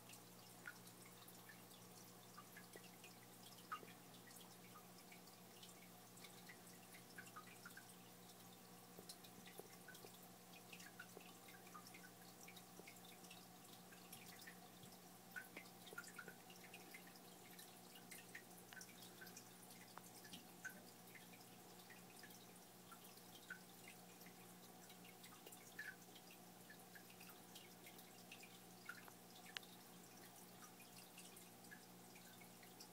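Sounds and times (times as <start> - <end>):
water drips and plops: 0.0 - 32.9.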